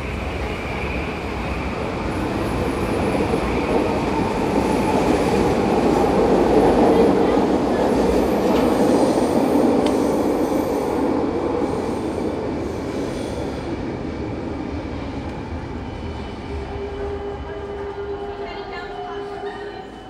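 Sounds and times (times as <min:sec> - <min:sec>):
metro train pulling out: 0:00.0 - 0:20.0.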